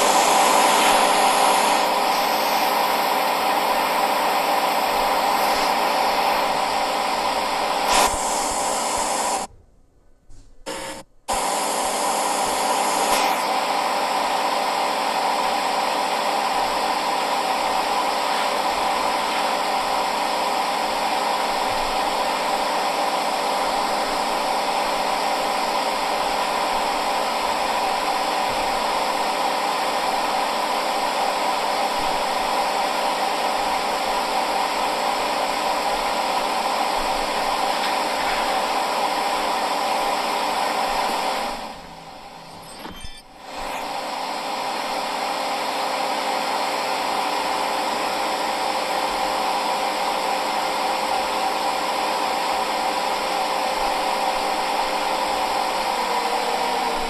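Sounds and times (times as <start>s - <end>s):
washing machine whirring hum: 0.0s - 57.0s.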